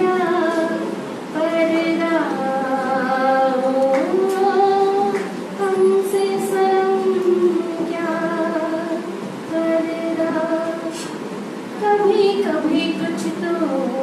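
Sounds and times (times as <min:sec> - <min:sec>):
woman singing: 0:00.0 - 0:11.2, 0:11.8 - 0:14.0.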